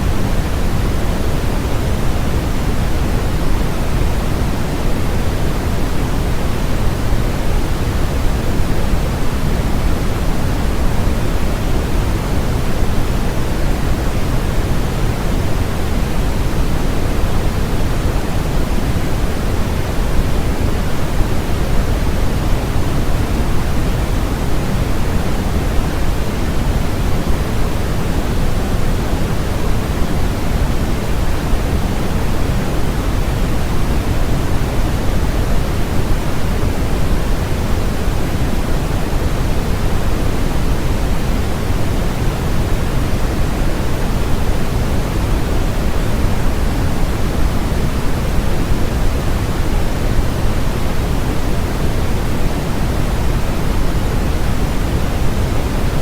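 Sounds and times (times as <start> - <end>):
steady noise hiss: 0.0 - 56.0.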